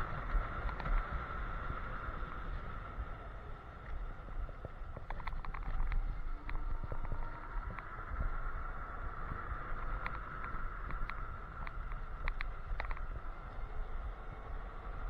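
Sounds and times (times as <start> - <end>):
electric scooter motor whine: 0.0 - 15.0
wind rumbling on microphone: 0.0 - 15.0.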